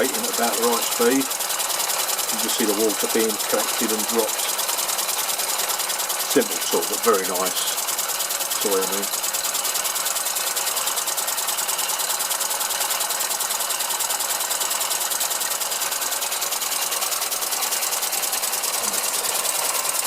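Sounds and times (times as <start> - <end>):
model engine beating: 0.0 - 20.0.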